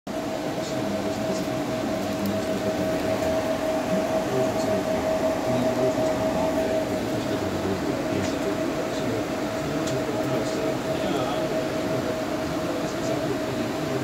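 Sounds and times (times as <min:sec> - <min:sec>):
mechanical hum with whine: 0:00.1 - 0:14.0.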